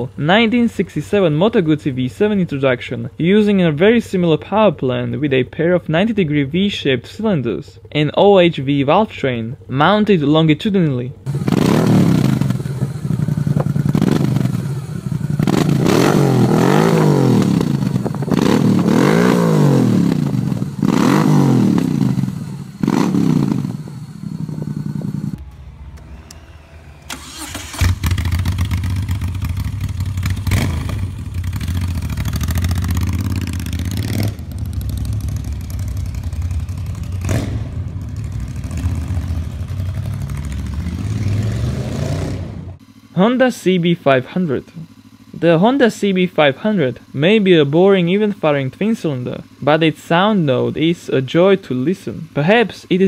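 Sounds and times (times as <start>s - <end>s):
motorcycle engine idling: 0.0s - 41.7s, 42.4s - 53.0s
motorcycle engine revving: 0.0s - 53.0s.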